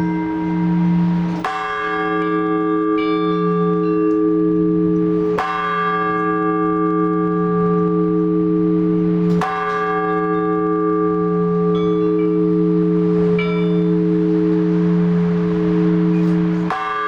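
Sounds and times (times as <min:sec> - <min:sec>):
large church bell ringing: 0:00.0 - 0:17.0.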